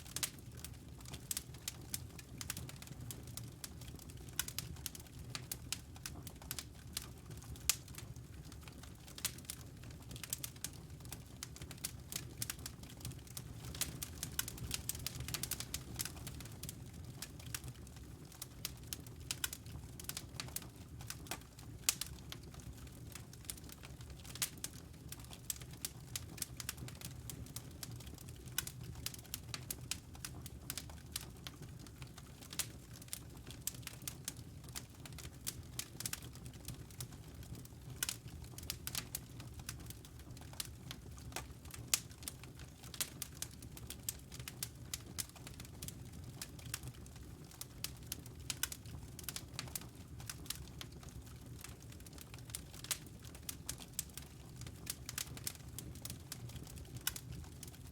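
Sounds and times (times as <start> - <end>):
fireplace fire crackling: 0.0 - 57.9.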